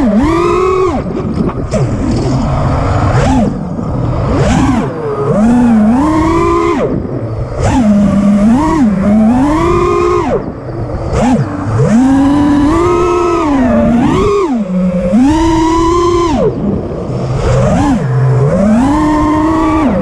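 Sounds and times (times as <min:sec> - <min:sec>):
quadcopter motors whining: 0:00.0 - 0:20.0
wind noise: 0:00.0 - 0:20.0.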